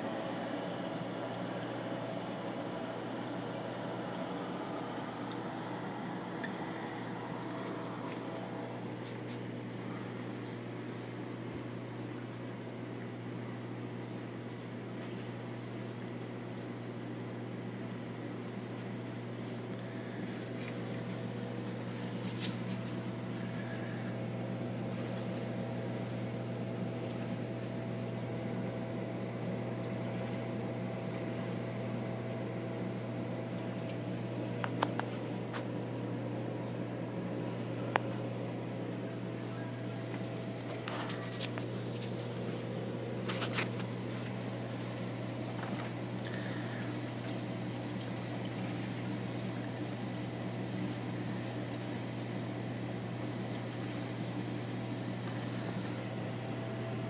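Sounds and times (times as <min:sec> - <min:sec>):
aquarium pumps humming: 0:00.0 - 0:57.0.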